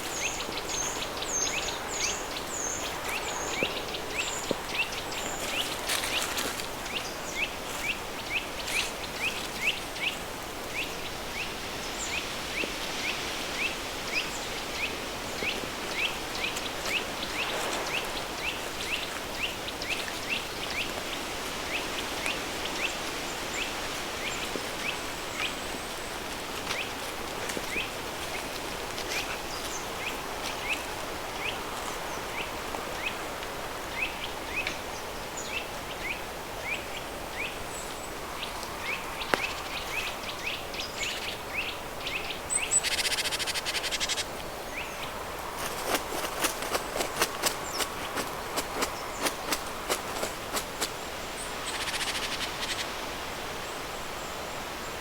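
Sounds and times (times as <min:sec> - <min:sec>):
pink noise hiss: 0:00.0 - 0:55.0
stream running: 0:00.0 - 0:55.0.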